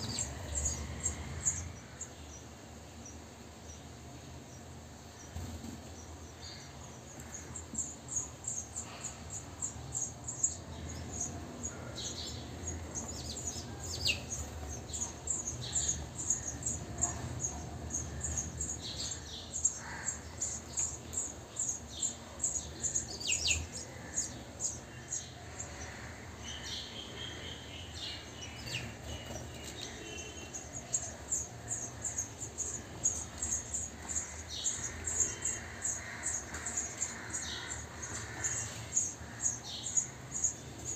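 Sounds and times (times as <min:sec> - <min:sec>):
adult sparrows chirping: 0:00.0 - 0:40.9.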